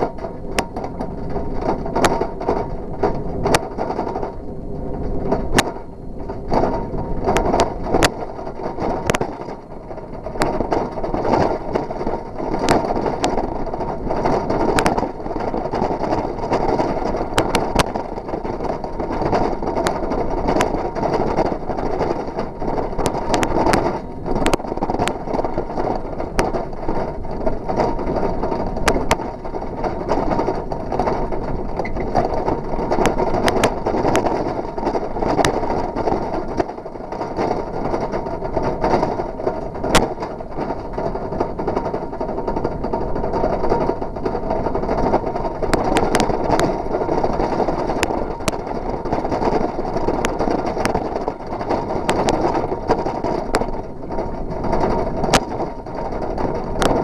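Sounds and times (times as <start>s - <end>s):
bicycle rolling on rough asphalt: 0.0s - 57.0s
sharp clicks and knocks: 0.0s - 57.0s.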